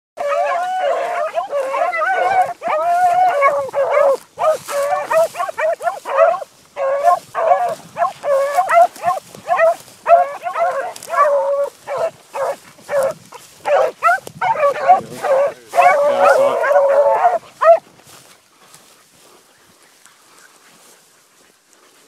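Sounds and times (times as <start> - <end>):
dogs barking: 0.2 - 17.9.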